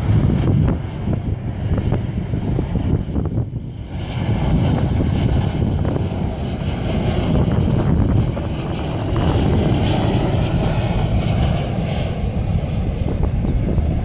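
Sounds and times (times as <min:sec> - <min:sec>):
jet engine rushing: 0:00.0 - 0:14.0
wind buffeting microphone: 0:00.0 - 0:14.0.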